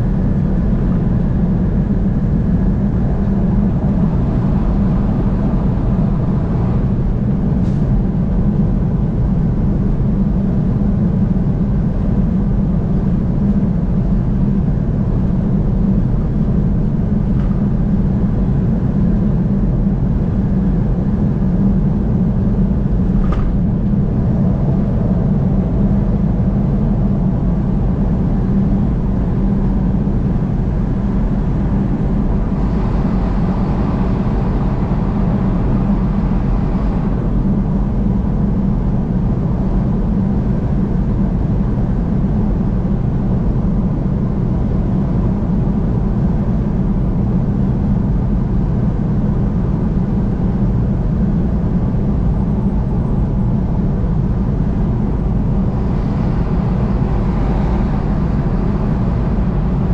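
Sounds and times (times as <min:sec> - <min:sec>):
car driving at highway speed: 0:00.0 - 0:59.9.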